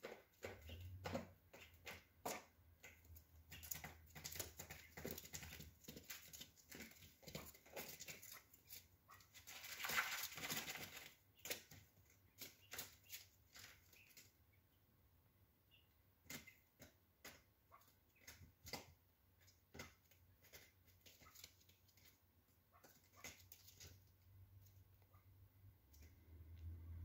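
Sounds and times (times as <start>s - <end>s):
quails pecking and scratching: 0.0s - 27.0s.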